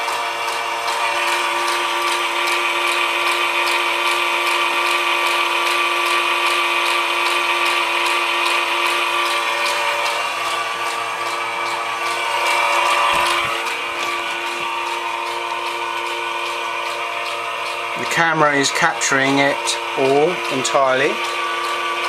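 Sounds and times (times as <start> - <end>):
projector motor whine: 0.0 - 22.0.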